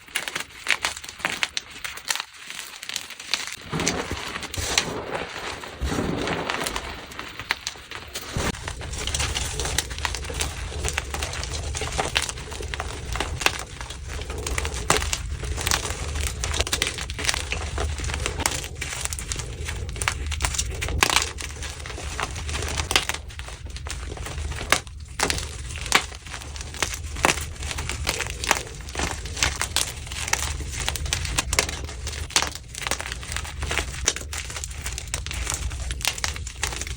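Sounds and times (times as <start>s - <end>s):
chalk crunching and crackling: 0.0s - 36.9s.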